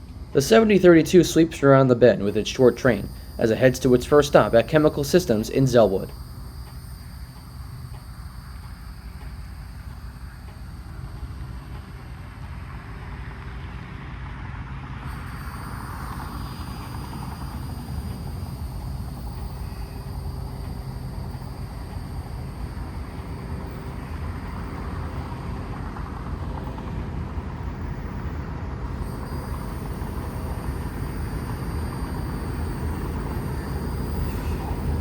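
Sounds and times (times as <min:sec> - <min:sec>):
diesel locomotive rumbling: 0:00.0 - 0:35.0.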